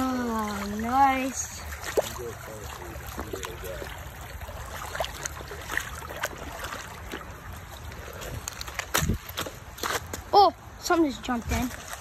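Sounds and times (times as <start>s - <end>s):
water trickling over rocks: 0.0s - 12.0s.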